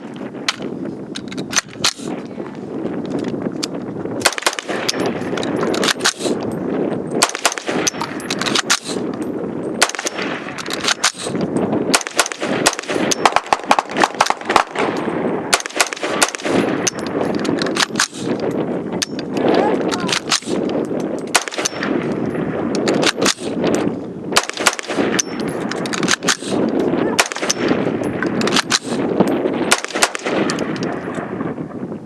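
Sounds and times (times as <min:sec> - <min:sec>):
rifle shots: 0:04.2 - 0:06.5, 0:07.2 - 0:09.2, 0:09.8 - 0:31.4.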